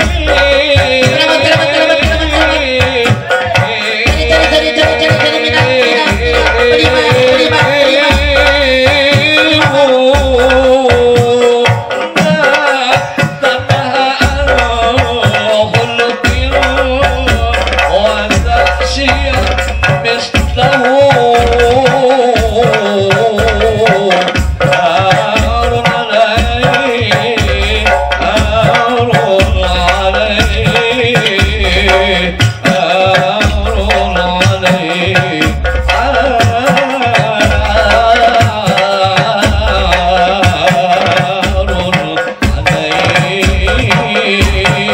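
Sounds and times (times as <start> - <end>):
frame drums: 0.0 - 44.9
men singing: 0.0 - 44.9.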